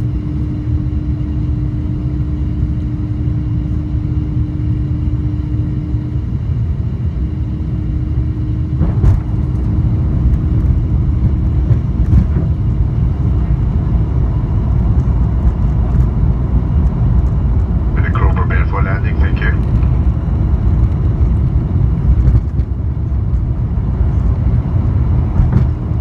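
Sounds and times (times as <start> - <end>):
faint steady hum: 0.0 - 25.0
airplane cabin rumble: 0.0 - 26.0.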